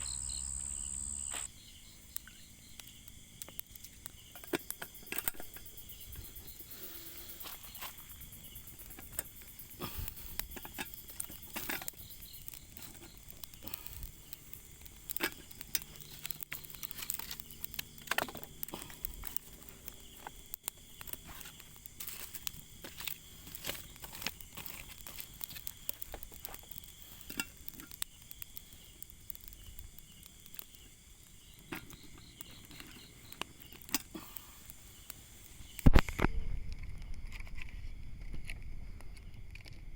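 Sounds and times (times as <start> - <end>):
insects chirring: 0.0 - 39.9
small crackles and rustling clicks: 1.3 - 39.9.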